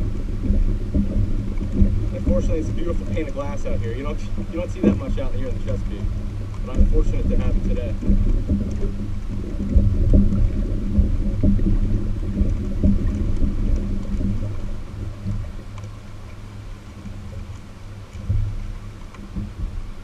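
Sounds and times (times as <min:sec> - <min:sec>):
boat motor rumble and hum: 0:00.0 - 0:20.0
light knocks of reel: 0:00.0 - 0:20.0.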